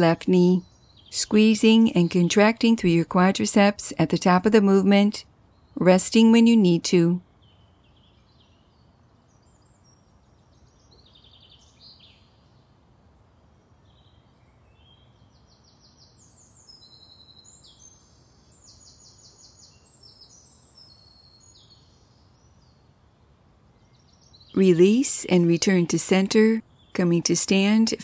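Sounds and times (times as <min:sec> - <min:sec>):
low steady background hum: 0:00.0 - 0:28.0
small birds chirping and trilling: 0:00.0 - 0:28.0.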